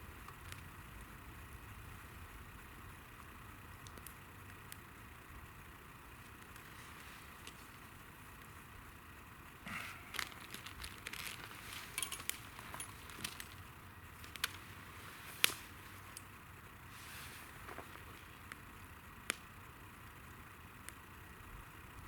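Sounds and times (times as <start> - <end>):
faint hiss of burning: 0.0 - 22.0
campfire crackling and popping: 0.2 - 22.0.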